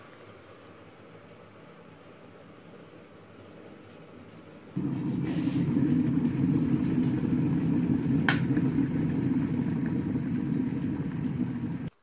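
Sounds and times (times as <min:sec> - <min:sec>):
kettle water boiling: 0:01.3 - 0:12.0.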